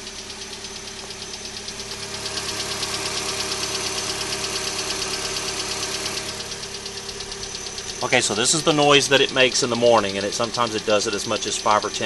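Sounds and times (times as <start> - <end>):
car engine idling: 0.0 - 12.0
rapid engine ticking: 0.0 - 12.0.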